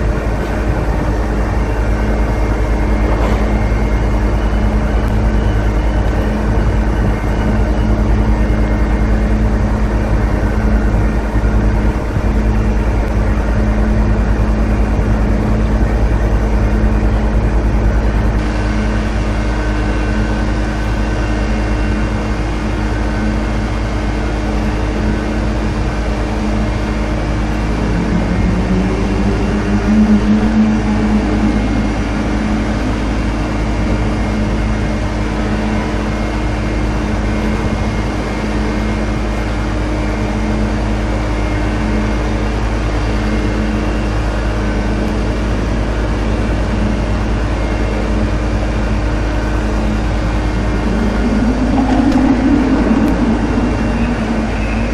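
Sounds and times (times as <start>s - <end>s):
low rumble: 0.0s - 41.2s, 45.0s - 54.9s
heavy engines droning: 0.0s - 54.9s.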